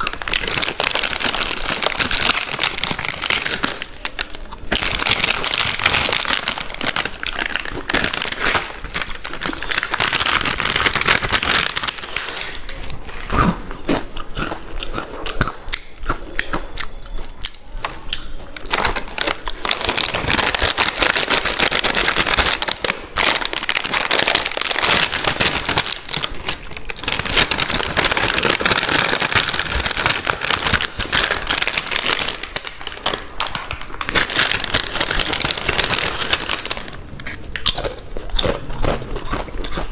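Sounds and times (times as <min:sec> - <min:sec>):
chip packet crinkling: 0:00.0 - 0:39.9
crunching and chewing chips: 0:00.0 - 0:39.9.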